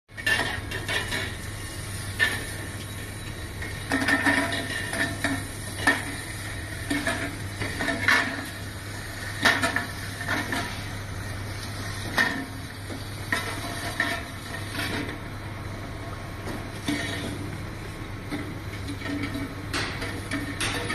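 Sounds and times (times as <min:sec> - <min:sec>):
steady machine hum: 0:00.1 - 0:20.9.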